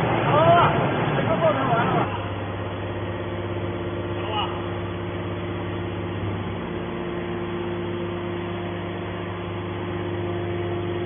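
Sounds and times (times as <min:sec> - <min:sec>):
hydraulic machine humming: 0:00.0 - 0:11.0
motor and pump whine: 0:00.0 - 0:11.0.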